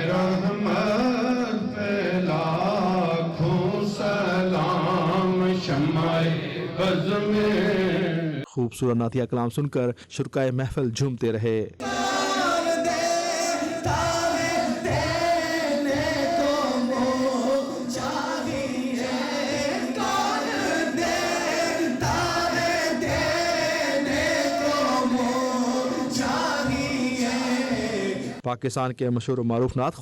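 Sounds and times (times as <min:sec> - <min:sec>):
men singing devotional song: 0:00.0 - 0:08.4, 0:11.8 - 0:28.4.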